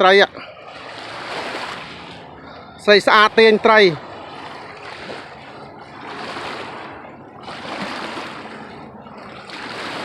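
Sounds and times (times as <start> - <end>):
lake water splashing: 0.0 - 10.0.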